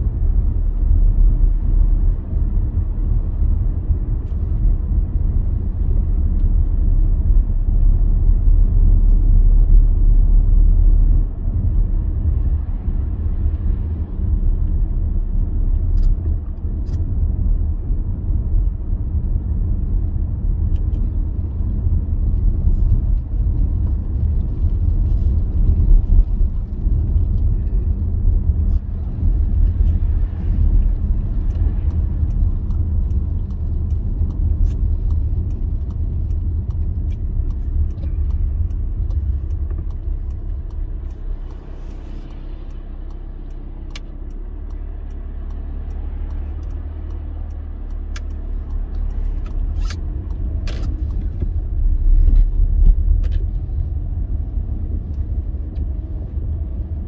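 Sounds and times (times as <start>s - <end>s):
vehicle engine and tyre rumble: 0.0s - 57.0s.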